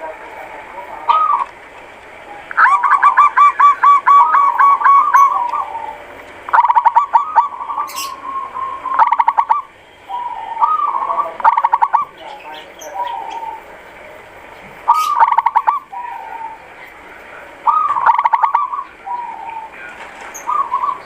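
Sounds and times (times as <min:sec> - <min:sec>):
dove calling: 0:00.0 - 0:21.0.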